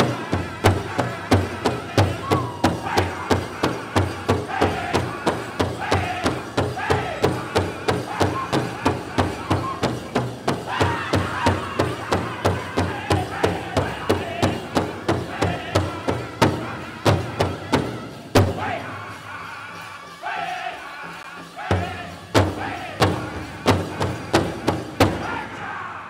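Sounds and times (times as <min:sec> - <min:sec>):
big drum beaten fast: 0:00.0 - 0:18.8, 0:21.7 - 0:25.5
group singing high wavering voices: 0:00.0 - 0:26.0.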